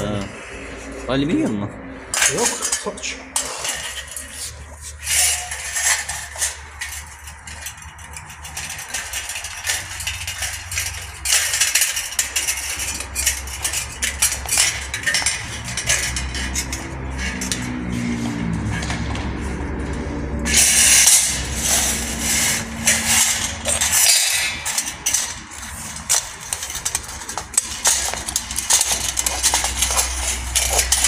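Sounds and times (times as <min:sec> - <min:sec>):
sheet steel tabs clinking: 0:02.2 - 0:18.0, 0:20.5 - 0:31.0.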